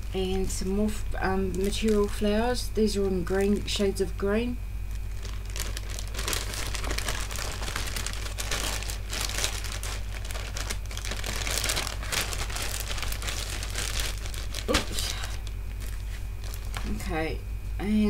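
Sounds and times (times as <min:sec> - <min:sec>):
plastic bags crinkling: 0:00.0 - 0:03.5, 0:04.9 - 0:17.1.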